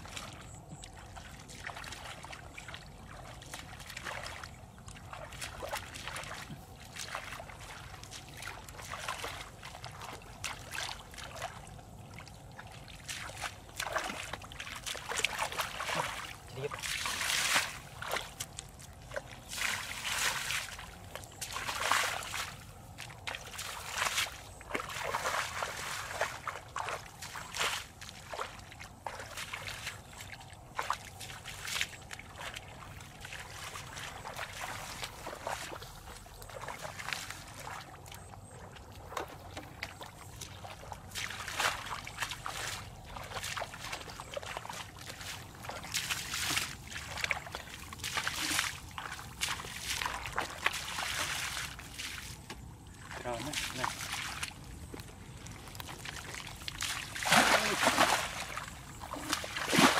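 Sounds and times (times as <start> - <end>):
feet splashing through muddy water: 0.0 - 59.9.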